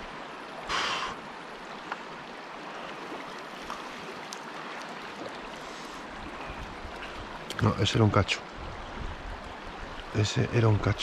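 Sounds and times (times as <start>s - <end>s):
mountain river flowing: 0.0s - 11.0s.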